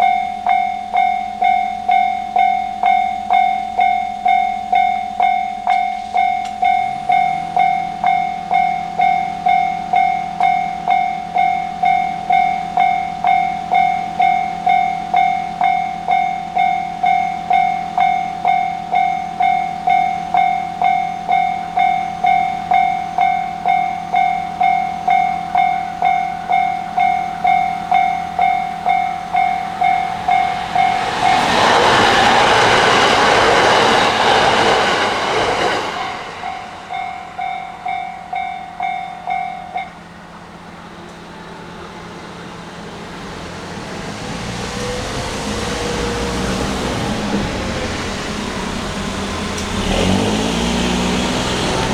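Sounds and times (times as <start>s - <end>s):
crossing warning bell ringing: 0.0s - 51.9s
train rushing and rumbling: 0.0s - 51.9s.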